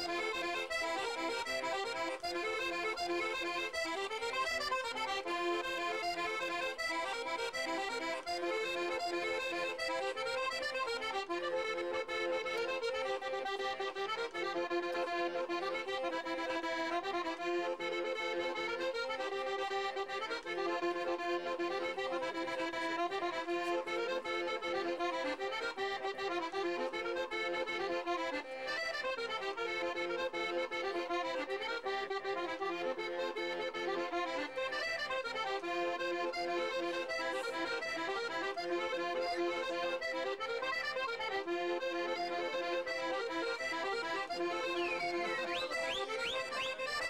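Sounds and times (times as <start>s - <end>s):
accordion playing folk tune: 0.0s - 47.0s.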